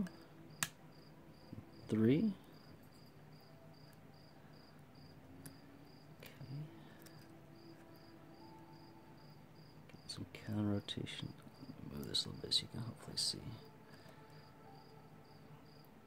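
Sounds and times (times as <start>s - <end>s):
cricket chirping: 0.0s - 15.9s.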